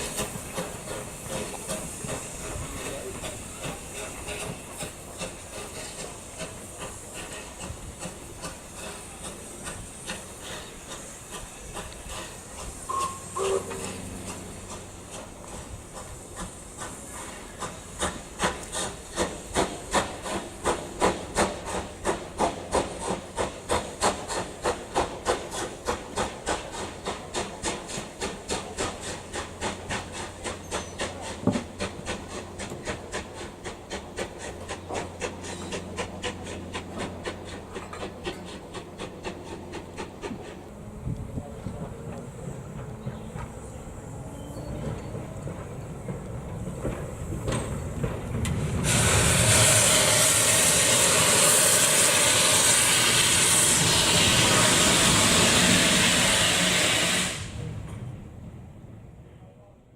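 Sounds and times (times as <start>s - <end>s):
steam hissing: 0.0s - 57.8s
steam train chuffing beats: 0.0s - 57.8s.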